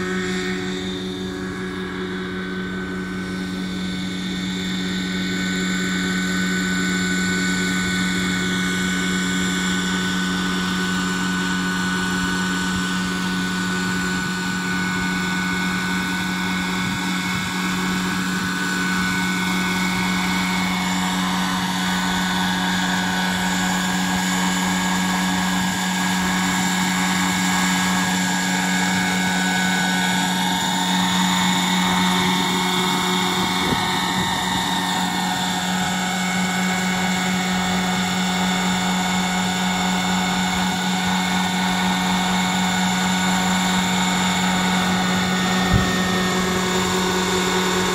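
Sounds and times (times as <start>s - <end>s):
model helicopter hovering: 0.0s - 47.9s.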